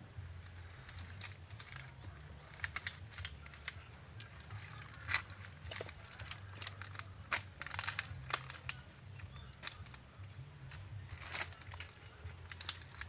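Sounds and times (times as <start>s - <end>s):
dry palm fronds crackling: 0.0s - 13.0s.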